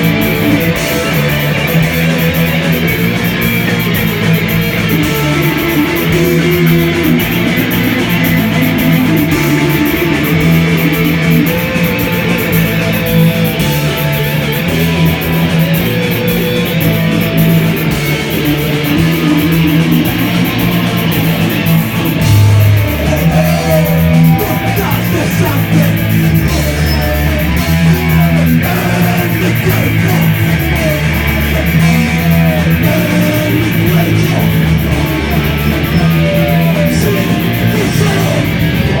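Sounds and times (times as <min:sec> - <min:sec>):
bass guitar: 0:00.0 - 0:39.0
drums and cymbals: 0:00.0 - 0:39.0
loud electric guitar: 0:00.0 - 0:39.0.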